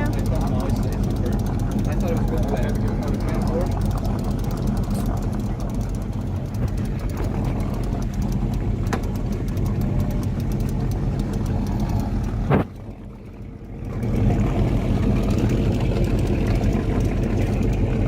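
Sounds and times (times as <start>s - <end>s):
boat engine humming: 0.0s - 18.0s
water noise: 0.0s - 18.0s
wind: 0.0s - 18.0s.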